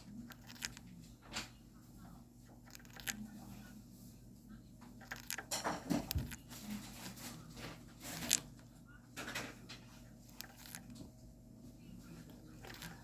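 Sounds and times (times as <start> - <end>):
parrot scratchy raspy noises: 0.0 - 13.0.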